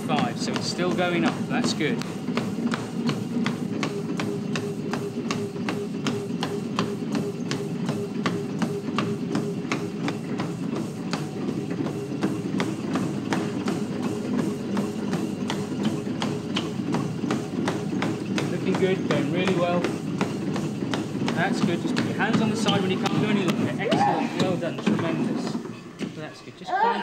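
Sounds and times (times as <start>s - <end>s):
running footfalls on treadmill: 0.0s - 27.0s
treadmill motor hum: 0.0s - 27.0s.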